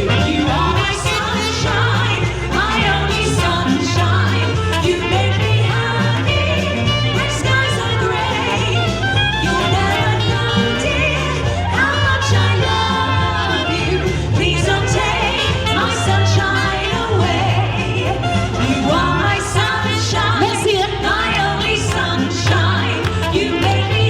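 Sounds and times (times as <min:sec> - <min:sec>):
female trio singing harmony: 0:00.0 - 0:24.0
swing backing music: 0:00.0 - 0:24.0.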